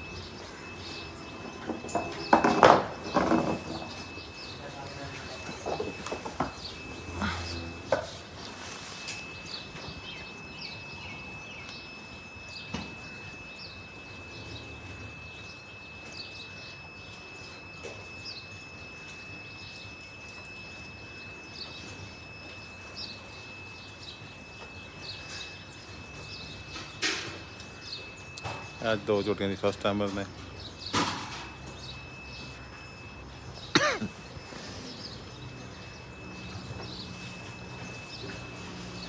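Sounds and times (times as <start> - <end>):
small birds chirping: 0.0 - 17.6, 21.1 - 39.0.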